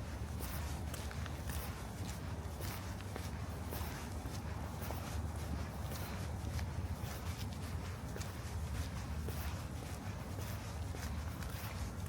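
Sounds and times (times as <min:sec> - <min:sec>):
footsteps crunching on sand: 0:00.0 - 0:12.0.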